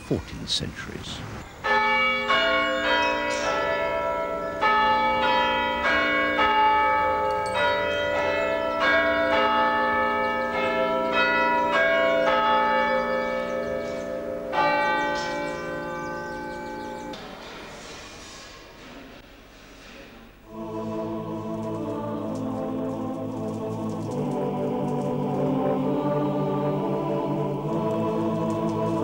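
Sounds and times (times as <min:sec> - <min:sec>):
church bells pealing: 0:01.5 - 0:17.7, 0:20.5 - 0:29.0.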